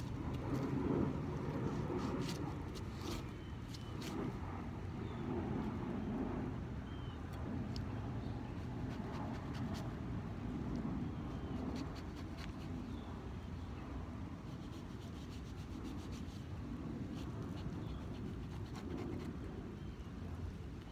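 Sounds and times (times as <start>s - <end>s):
low outdoor rumble: 0.0s - 20.9s.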